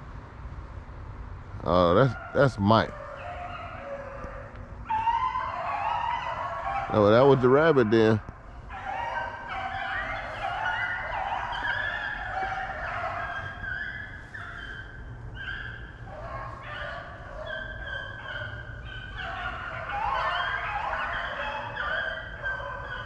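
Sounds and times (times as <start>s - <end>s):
pack of dogs baying: 1.6s - 23.0s.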